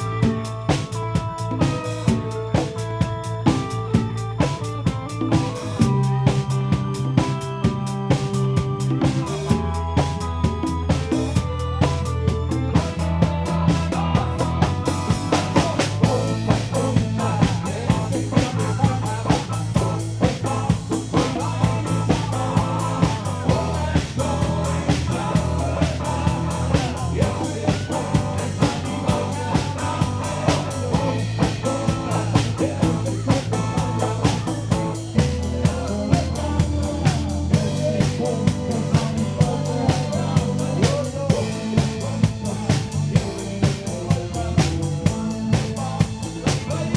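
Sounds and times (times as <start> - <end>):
live rock band: 0.0 - 46.9.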